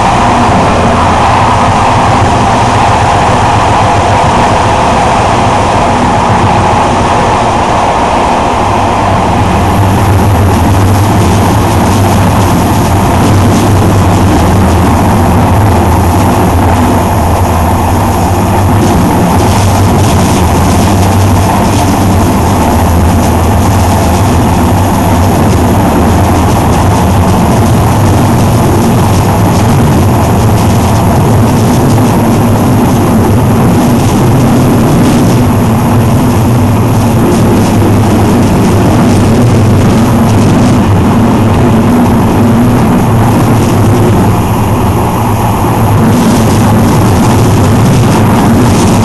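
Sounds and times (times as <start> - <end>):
locomotive drone: 0.0 - 49.0
thin high whine: 0.0 - 49.0
wheels rumbling on rails: 0.0 - 49.0.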